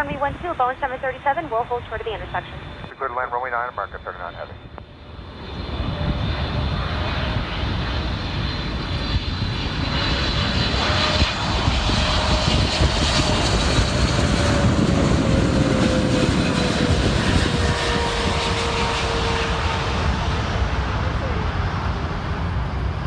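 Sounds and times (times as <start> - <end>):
jet airliner passing: 0.0 - 23.0.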